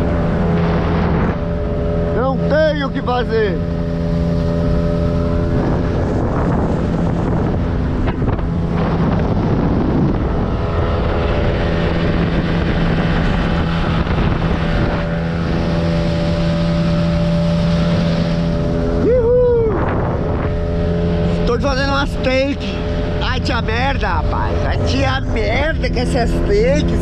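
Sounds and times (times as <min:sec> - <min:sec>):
outboard motor running: 0:00.0 - 0:27.0
wind buffeting microphone: 0:00.0 - 0:27.0.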